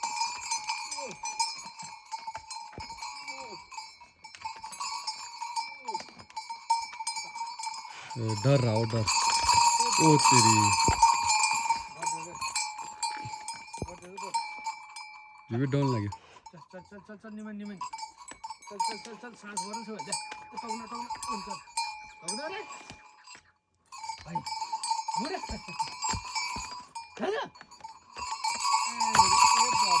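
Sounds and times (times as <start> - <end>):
livestock bells clanking: 0.0 - 30.0.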